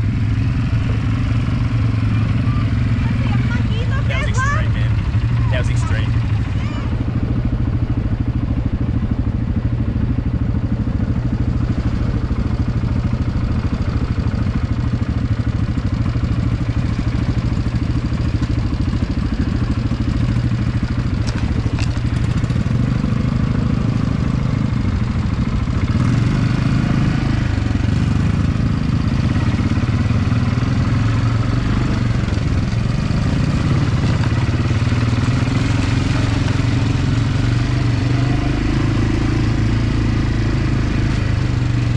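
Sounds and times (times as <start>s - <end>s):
quad bike engine running: 0.0s - 41.9s.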